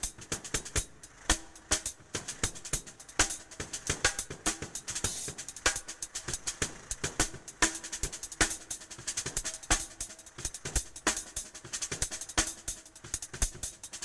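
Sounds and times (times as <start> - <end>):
drum kit solo: 0.0 - 14.0.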